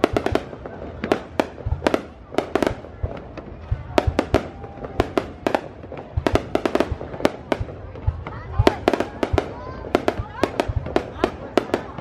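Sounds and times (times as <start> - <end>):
deep firework booms: 0.0 - 12.0
fireworks cracking: 0.0 - 12.0.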